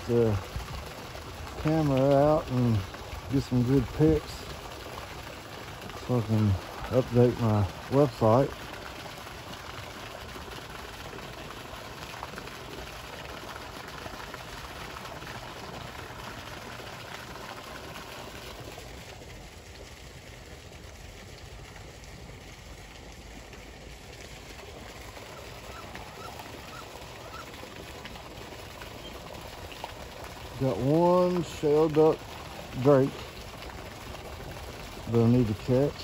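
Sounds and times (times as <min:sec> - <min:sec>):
rushing running water: 0:00.0 - 0:36.0.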